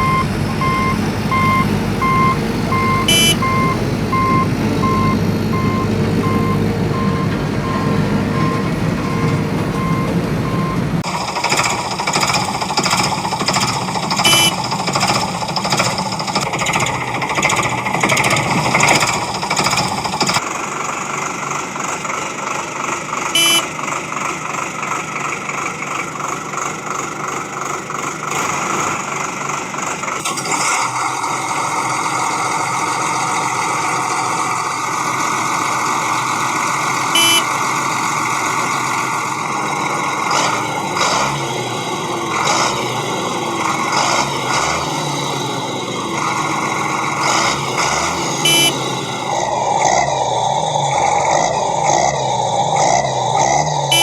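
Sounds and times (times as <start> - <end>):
working vehicle engines: 0.0 - 54.0.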